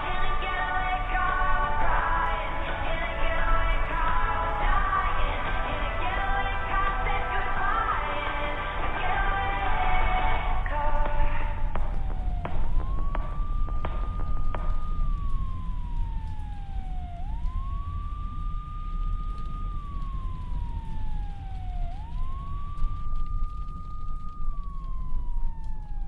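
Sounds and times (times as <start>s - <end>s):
police siren wailing: 0.0s - 26.0s
steady low rumble: 0.0s - 26.0s.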